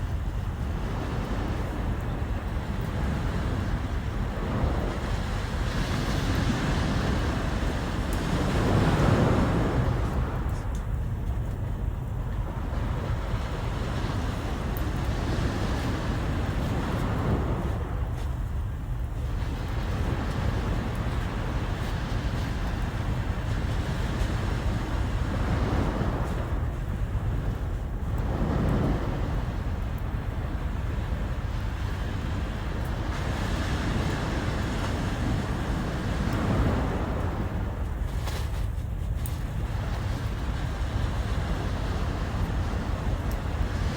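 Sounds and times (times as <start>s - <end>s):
sea waves washing ashore: 0.0s - 43.9s
wind rumbling on microphone: 0.0s - 43.9s.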